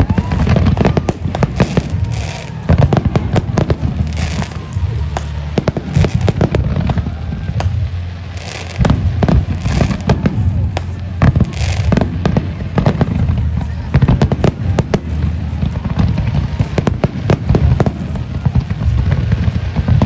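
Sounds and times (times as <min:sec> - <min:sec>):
fireworks bangs: 0:00.0 - 0:20.0
hissing crackle of fireworks: 0:00.0 - 0:20.0
low rumble: 0:00.0 - 0:20.0.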